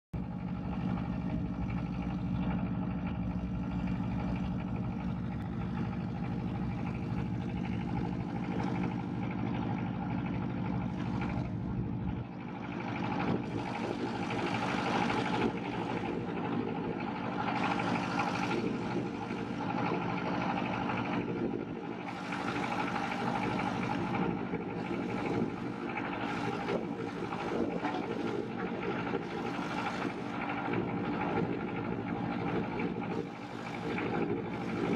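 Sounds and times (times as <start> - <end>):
motorboat engine running: 0.2 - 34.9.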